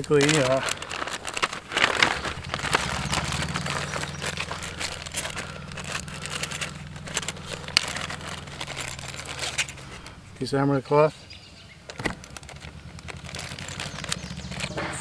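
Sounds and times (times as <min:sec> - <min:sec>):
plastic packaging crinkling: 0:00.0 - 0:11.2, 0:11.8 - 0:15.0
engine humming: 0:00.0 - 0:15.0.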